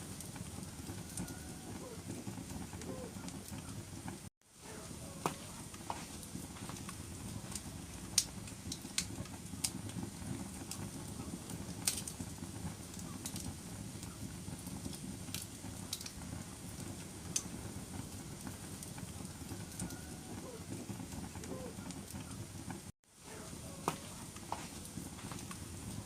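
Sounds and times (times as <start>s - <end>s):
fire crackling pops: 0.0s - 26.0s
flames rushing: 0.0s - 26.0s.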